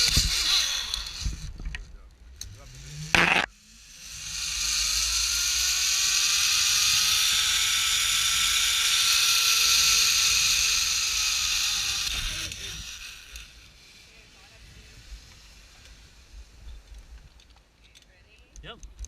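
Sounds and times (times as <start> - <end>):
zip-line pulleys whirring on cable: 0.0 - 17.4.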